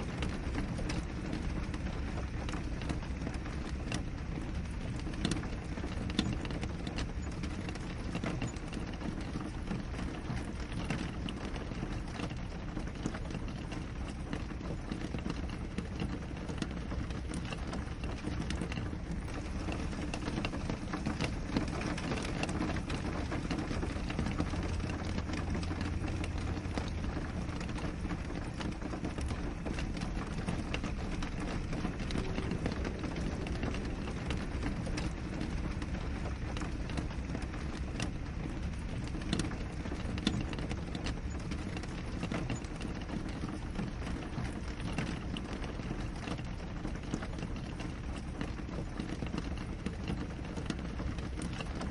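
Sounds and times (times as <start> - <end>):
rain on a window: 0.0 - 51.9
steady low rumble: 0.0 - 51.9.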